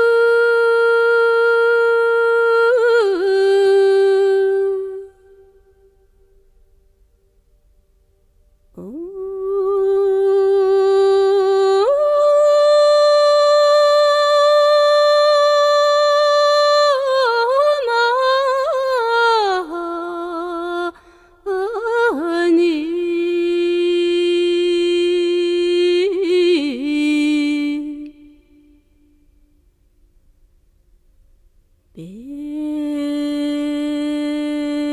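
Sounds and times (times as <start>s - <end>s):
woman singing unaccompanied: 0.0s - 6.0s, 8.8s - 29.2s, 31.9s - 34.9s.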